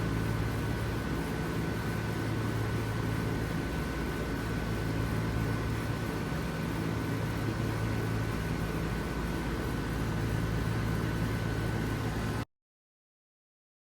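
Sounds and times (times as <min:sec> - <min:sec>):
condenser fan blowing: 0:00.0 - 0:12.4.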